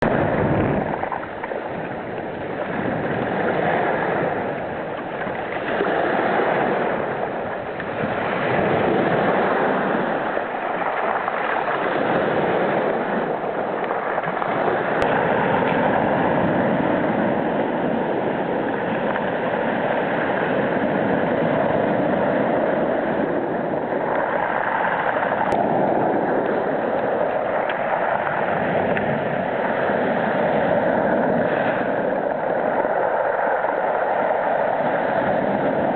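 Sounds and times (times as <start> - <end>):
waves washing over beach stones: 0.0 - 35.9.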